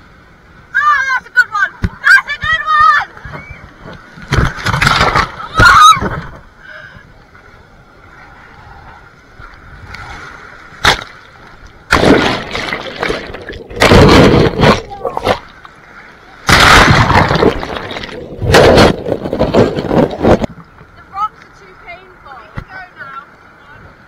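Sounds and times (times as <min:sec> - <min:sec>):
surf breaking and splashing: 0:00.6 - 0:24.0.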